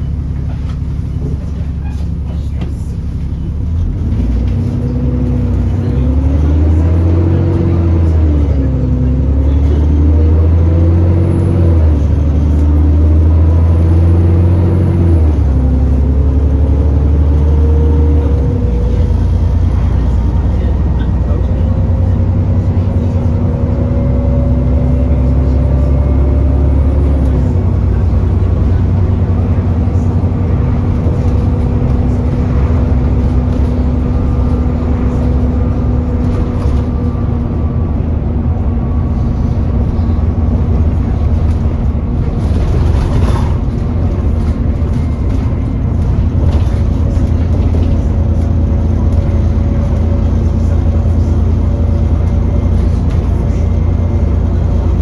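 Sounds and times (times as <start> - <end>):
diesel bus engine rumbling: 0.0 - 55.0.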